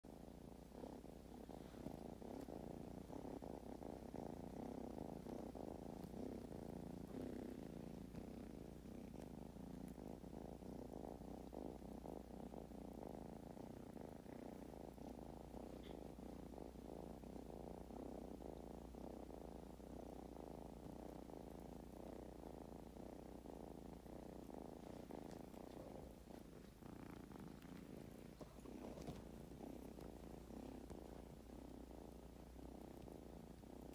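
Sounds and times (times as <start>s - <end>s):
kitten purring: 0.0s - 33.9s.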